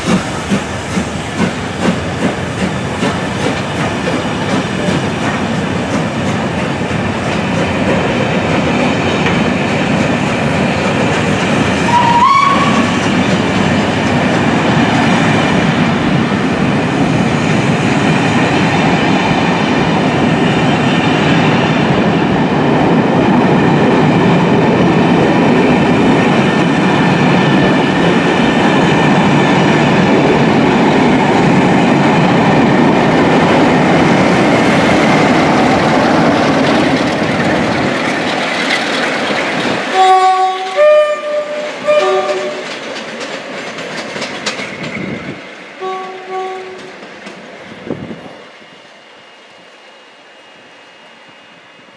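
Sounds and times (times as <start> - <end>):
train wheels clattering over rail joints: 0.0 - 21.5, 23.4 - 40.8, 41.4 - 47.9.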